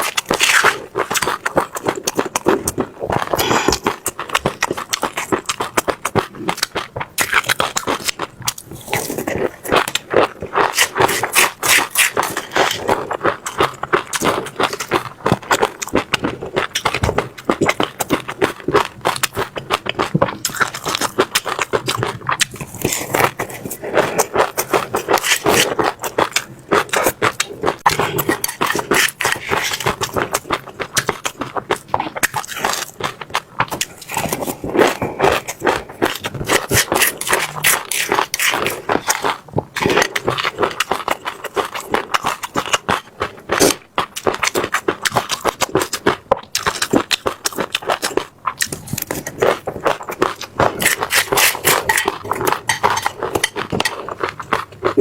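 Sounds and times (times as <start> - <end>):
chewing crunchy seeds: 0.0 - 55.0.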